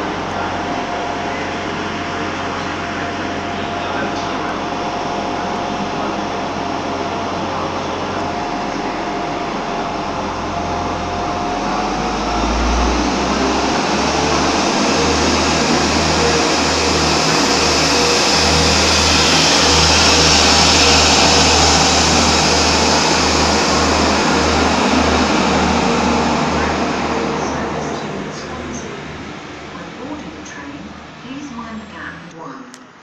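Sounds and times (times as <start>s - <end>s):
faint steady whine: 0.0s - 33.0s
train passing: 0.0s - 33.0s.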